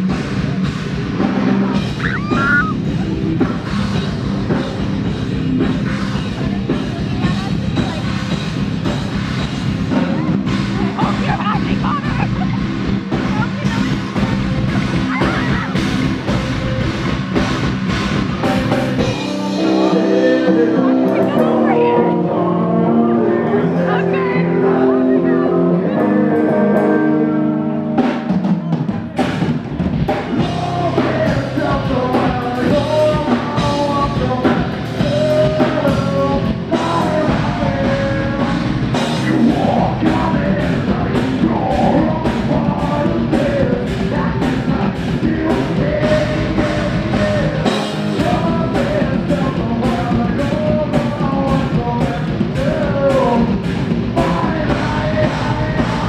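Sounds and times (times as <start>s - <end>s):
steady drum beat: 0.0s - 22.5s, 27.9s - 56.0s
live rock band playing: 0.0s - 56.0s.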